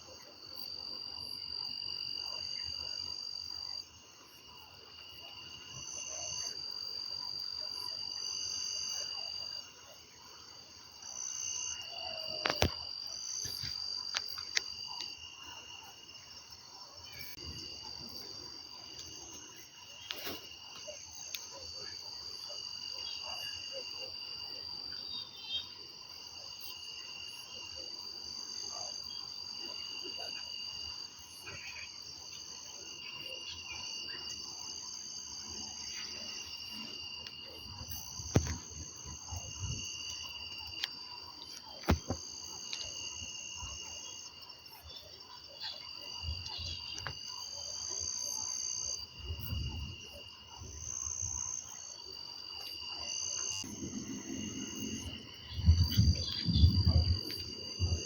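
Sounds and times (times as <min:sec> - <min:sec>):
crickets and insects chirping: 0:00.0 - 0:58.0.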